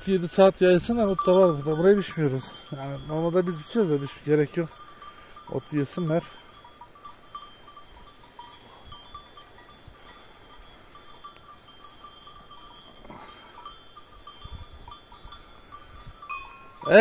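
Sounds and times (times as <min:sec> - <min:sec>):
cowbells clinking: 0:00.0 - 0:17.0.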